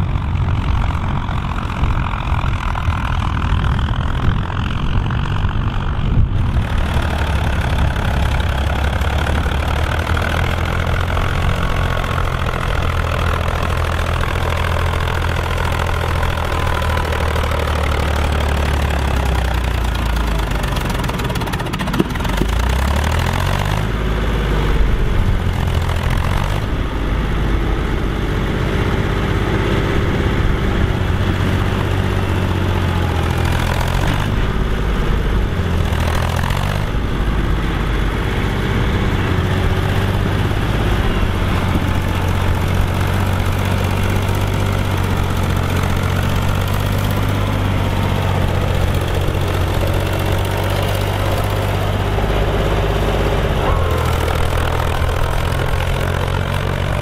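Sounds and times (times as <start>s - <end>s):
tractor diesel engine working hard: 0.0s - 57.0s.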